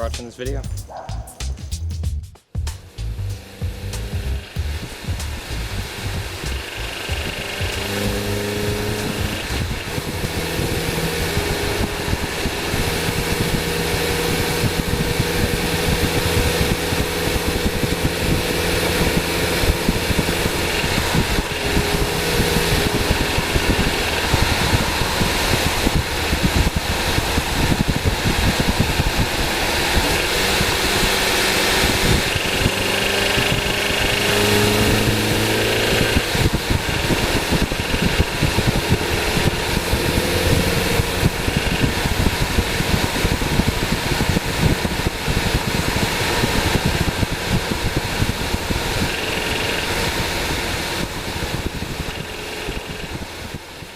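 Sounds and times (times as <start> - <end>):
car engine idling: 0.0 - 53.9
fan noise: 0.0 - 53.9.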